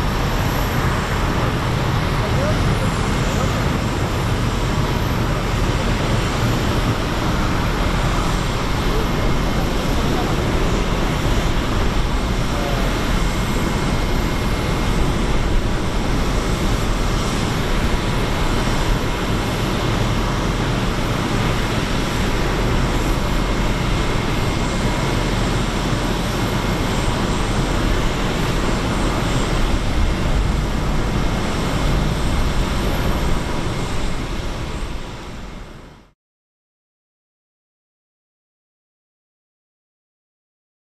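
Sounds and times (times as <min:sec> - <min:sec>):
jet engines roaring: 0:00.0 - 0:36.1
faint jet engine whine: 0:00.0 - 0:36.2.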